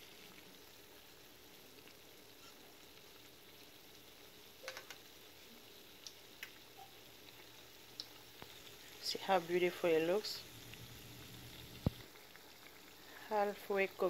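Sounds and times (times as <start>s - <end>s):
dough sizzling in oil: 0.0s - 14.0s.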